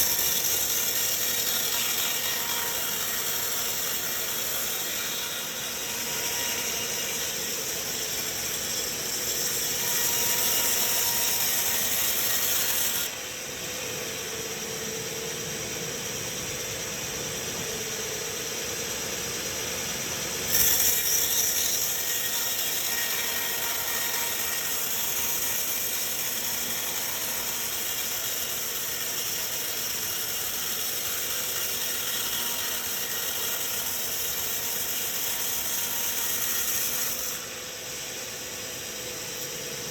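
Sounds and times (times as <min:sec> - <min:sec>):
sawmill machinery clatter: 0:00.0 - 0:13.1, 0:20.5 - 0:39.9.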